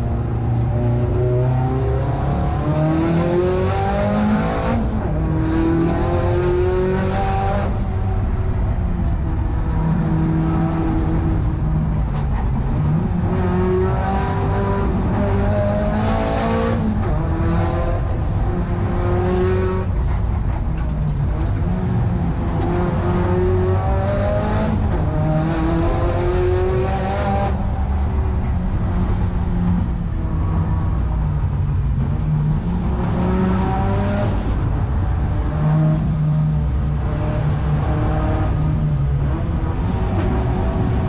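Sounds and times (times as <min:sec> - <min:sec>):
car engine revving: 0:00.0 - 0:11.6, 0:12.3 - 0:41.0.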